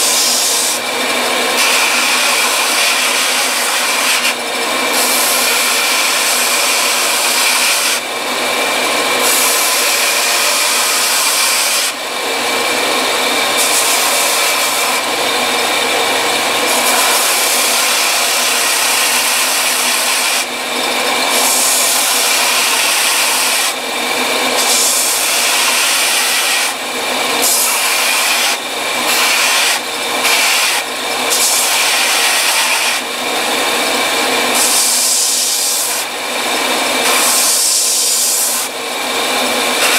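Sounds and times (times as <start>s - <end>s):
belt sander grinding: 0.0s - 39.9s.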